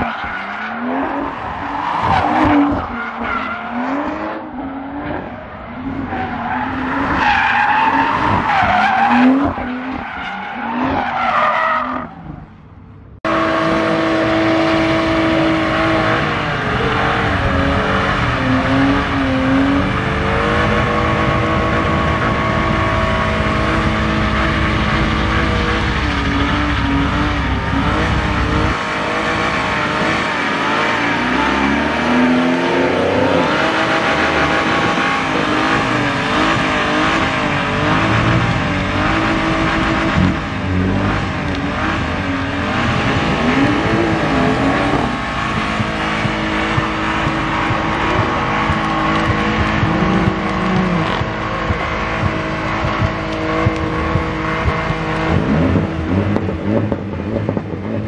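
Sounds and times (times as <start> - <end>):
car engine revving high: 0.0 - 12.3, 13.2 - 58.0.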